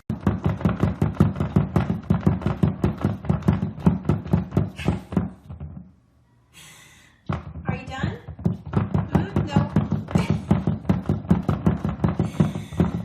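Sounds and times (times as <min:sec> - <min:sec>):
fast run of knocks: 0:00.1 - 0:05.9, 0:07.2 - 0:13.0.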